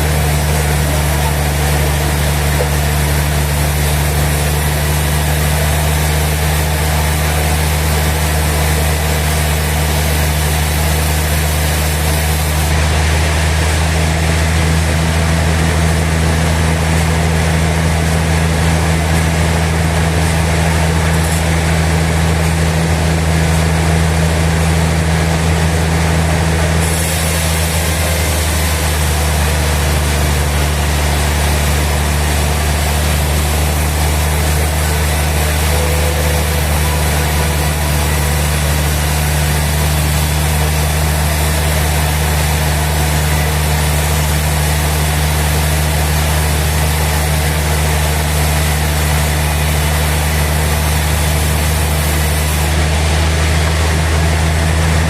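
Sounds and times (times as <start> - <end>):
sawmill machinery drone: 0.0 - 55.0.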